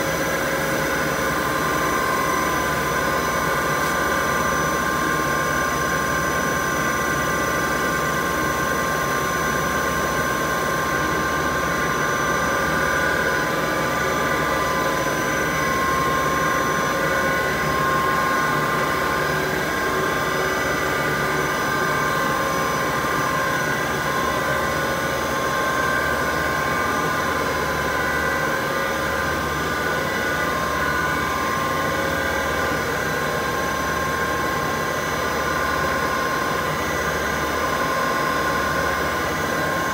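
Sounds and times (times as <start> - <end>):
constant high machine tones: 0.0 - 39.9.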